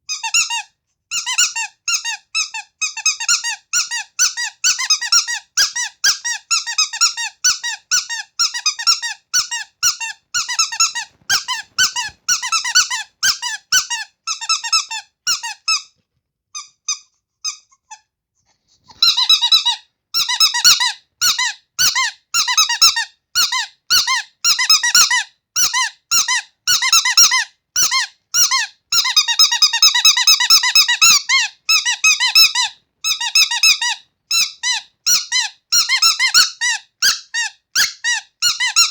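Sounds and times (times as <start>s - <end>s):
squeaky toy squeaking: 0.0s - 38.9s.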